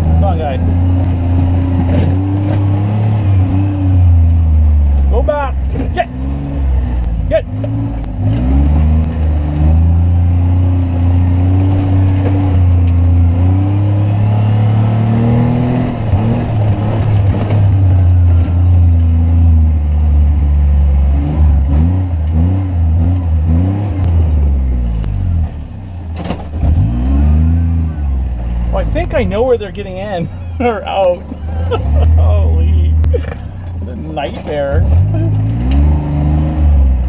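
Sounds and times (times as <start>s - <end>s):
utility vehicle engine revving: 0.0s - 37.0s.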